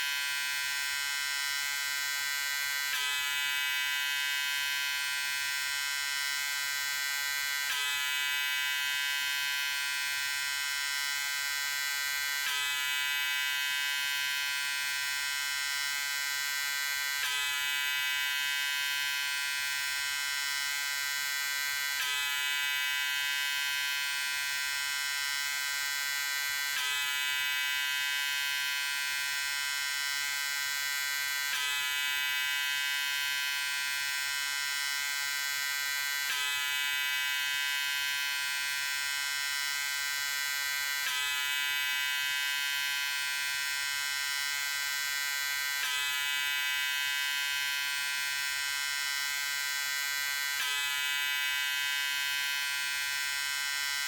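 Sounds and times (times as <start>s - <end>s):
electric shaver buzzing: 0.0s - 54.0s.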